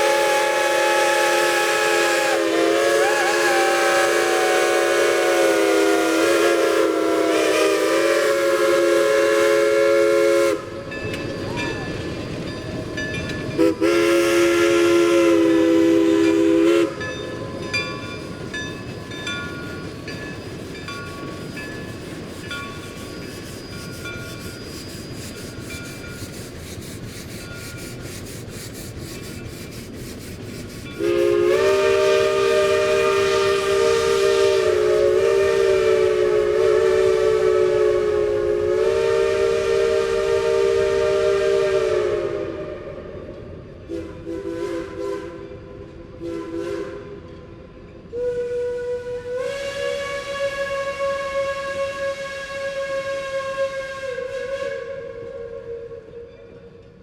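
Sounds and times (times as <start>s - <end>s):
steam locomotive chime whistle: 0.0s - 28.3s, 30.5s - 57.0s
steady steam hiss: 0.0s - 57.0s.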